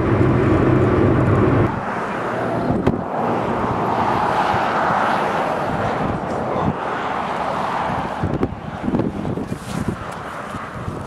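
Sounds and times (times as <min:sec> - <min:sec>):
wind on microphone: 0:00.0 - 0:07.0, 0:07.6 - 0:11.0
low wind buffets: 0:00.0 - 0:11.0.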